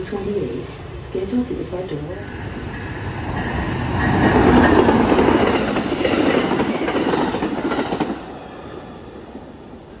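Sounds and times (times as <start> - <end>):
train wheels rumbling over rails: 0.0 - 10.0.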